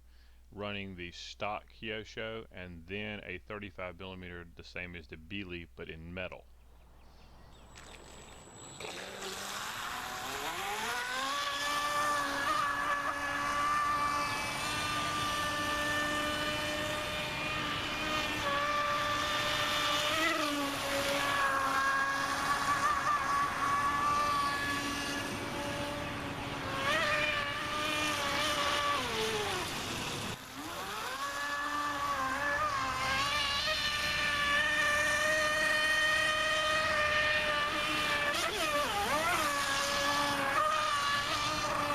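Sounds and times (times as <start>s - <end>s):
electric boat motor whining: 6.9s - 41.9s
water noise: 7.4s - 41.9s.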